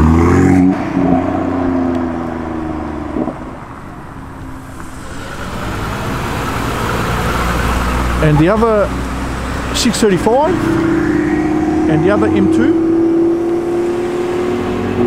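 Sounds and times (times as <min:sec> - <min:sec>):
car engine pulling away: 0:00.0 - 0:15.0
car engine rumble approaching: 0:00.0 - 0:15.0.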